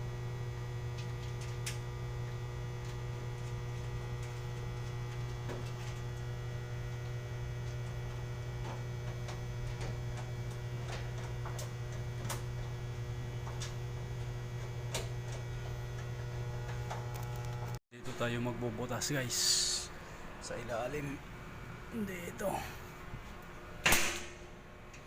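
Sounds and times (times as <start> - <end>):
low electrical mains hum: 0.0 - 25.0.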